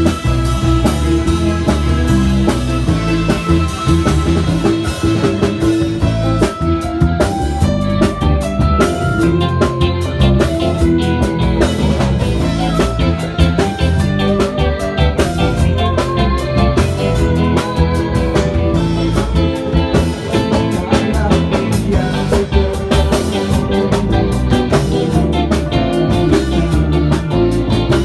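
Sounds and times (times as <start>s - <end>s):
drum kit: 0.0s - 28.0s
electric guitars: 0.0s - 28.0s
keyboard: 0.0s - 28.0s.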